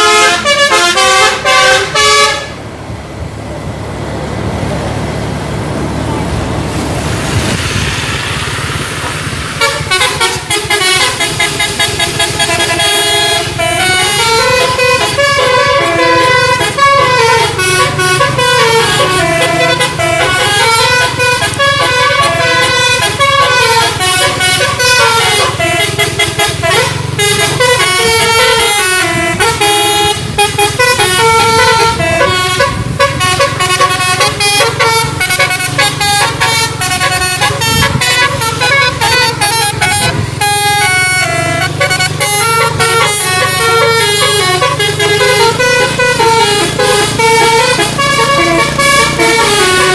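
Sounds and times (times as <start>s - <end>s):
bus horn playing a melody: 0.0s - 2.6s, 9.4s - 49.9s
road noise: 0.0s - 49.9s.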